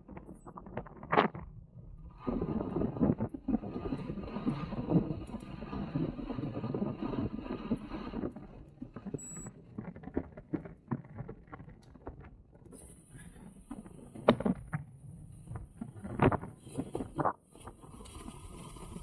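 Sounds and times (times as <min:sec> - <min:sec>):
bike rattling and knocking: 0:02.4 - 0:19.0.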